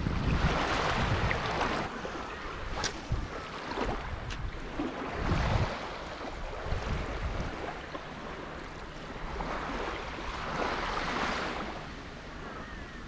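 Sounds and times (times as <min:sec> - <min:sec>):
wind buffeting microphone: 0:00.0 - 0:12.8
seawater sloshing while wading: 0:00.3 - 0:12.6.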